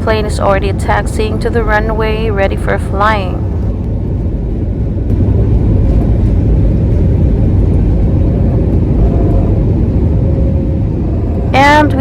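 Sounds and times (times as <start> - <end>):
faint steady whine: 0.0 - 12.0
jet engines low rumble: 0.0 - 12.0.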